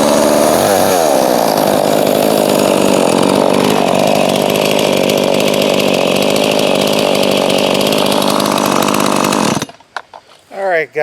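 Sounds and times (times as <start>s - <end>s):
chainsaw engine running: 0.0s - 9.8s.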